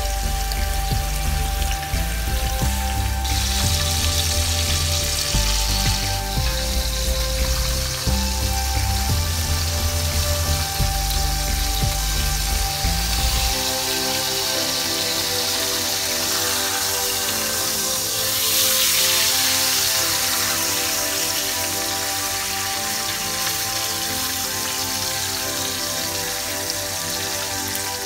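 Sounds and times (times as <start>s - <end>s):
background music with bass line: 0.0s - 28.0s
chicken sizzling in hot oil: 0.0s - 28.0s.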